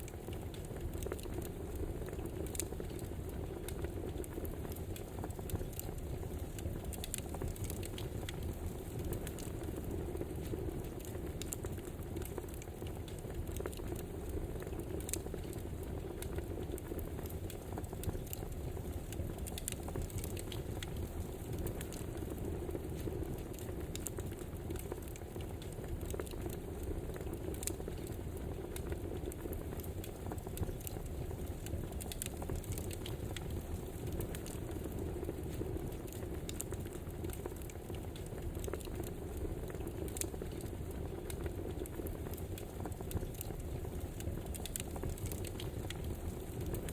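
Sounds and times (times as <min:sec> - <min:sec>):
campfire burning: 0:00.0 - 0:46.9
wood crackling and popping: 0:00.0 - 0:46.9.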